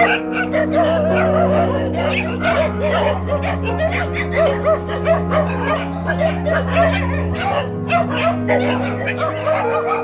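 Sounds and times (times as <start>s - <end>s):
background music with held notes: 0.0s - 10.0s
dogs yipping and barking: 0.0s - 10.0s.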